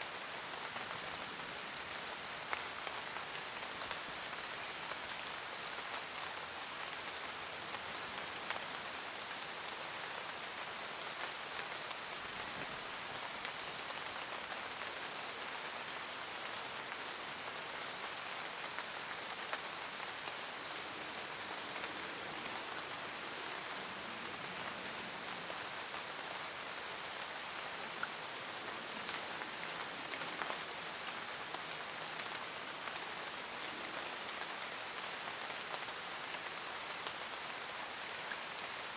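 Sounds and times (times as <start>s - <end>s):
steady rain hiss: 0.0s - 38.9s
raindrops ticking on leaves: 0.1s - 38.9s.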